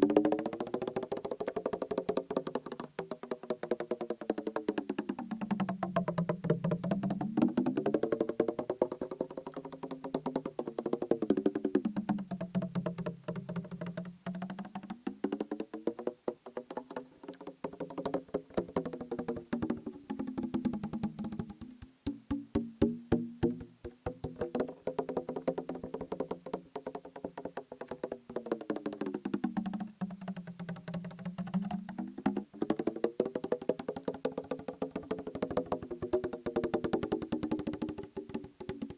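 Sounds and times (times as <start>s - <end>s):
fingertips tapping plastic bottle: 6.9s - 38.9s.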